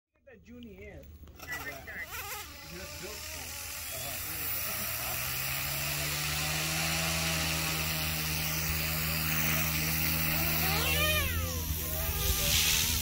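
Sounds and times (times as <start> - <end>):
low rotor hum: 1.0 - 13.0
electric motor whine rising: 1.3 - 13.0.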